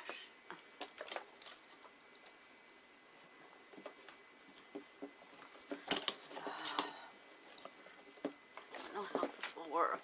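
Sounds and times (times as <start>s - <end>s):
faint high-pitched whine: 0.0s - 10.0s.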